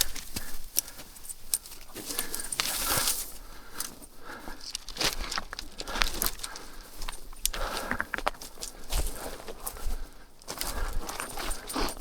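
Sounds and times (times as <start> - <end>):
rustling and crunching: 0.0 - 12.0.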